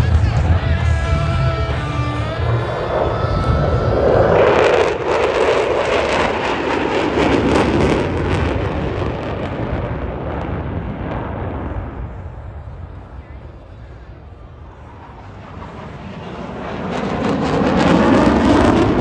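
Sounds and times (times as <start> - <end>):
jet roar low pass: 0.0 - 19.0.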